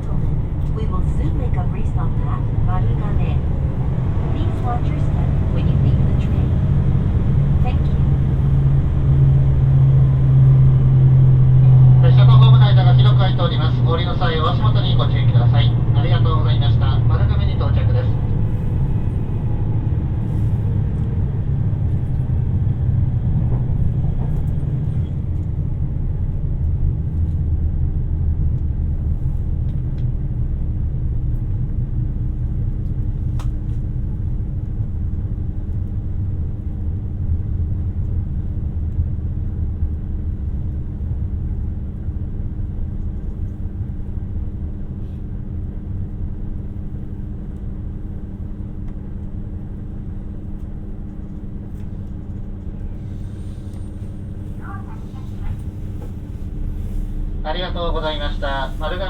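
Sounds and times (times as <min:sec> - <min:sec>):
diesel train rumble inside cabin: 0:00.0 - 0:59.0.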